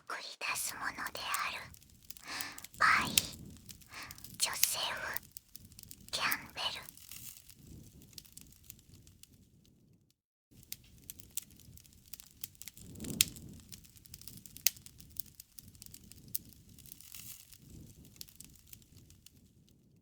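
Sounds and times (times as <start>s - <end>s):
wood crackling and popping: 0.1s - 9.4s, 10.6s - 19.8s.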